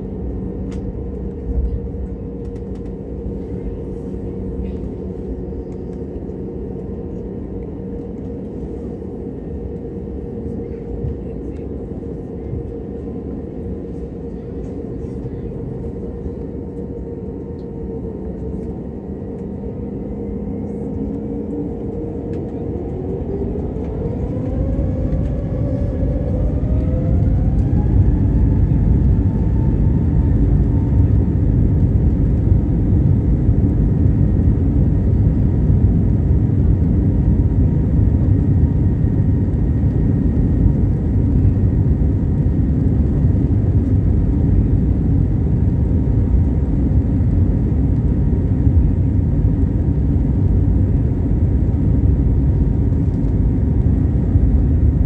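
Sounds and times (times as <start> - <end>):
takeoff roll roar and rumble: 0.0 - 55.0
jet engines spooling up: 0.1 - 51.1.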